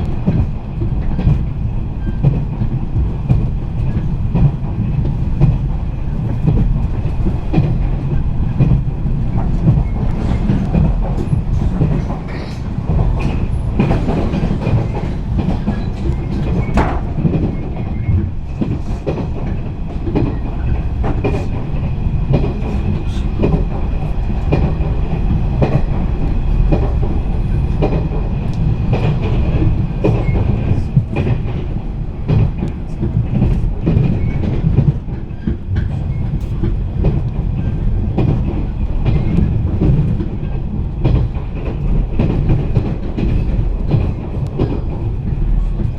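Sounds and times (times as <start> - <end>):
train low rumble: 0.0 - 45.9
wheels clacking over rail joints: 0.0 - 45.9.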